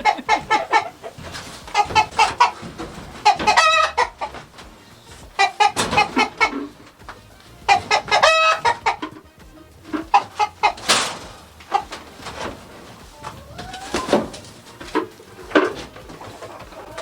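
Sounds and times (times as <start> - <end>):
chickens clucking: 0.0 - 17.0
rustling: 0.0 - 17.0.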